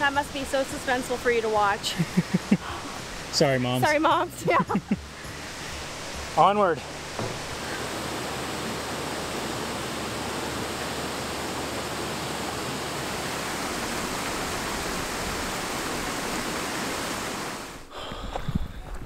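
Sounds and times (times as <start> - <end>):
creek water rushing over boulders: 0.0 - 17.9.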